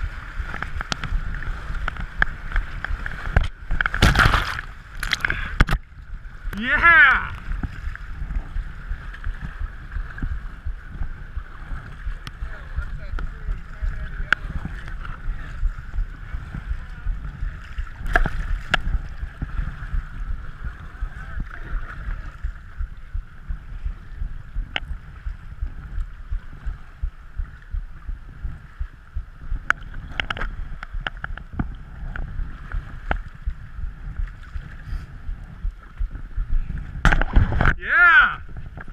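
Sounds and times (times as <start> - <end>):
water rushing around kayak hull: 0.0 - 38.9
wind rumble on microphone: 0.0 - 38.9.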